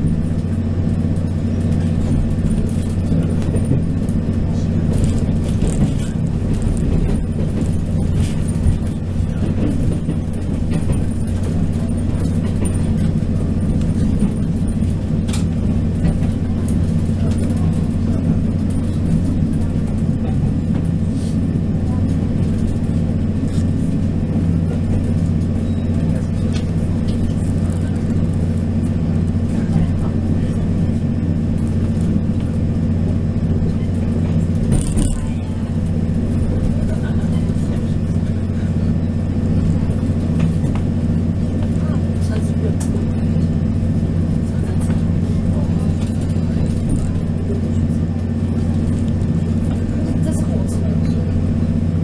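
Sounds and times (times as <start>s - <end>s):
diesel engine drone: 0.0s - 52.0s
train wheels on track: 0.0s - 52.0s.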